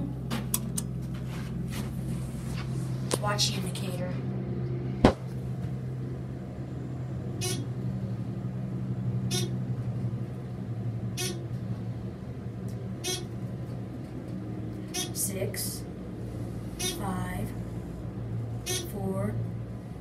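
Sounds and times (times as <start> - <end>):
elevator low hum: 0.0 - 20.0.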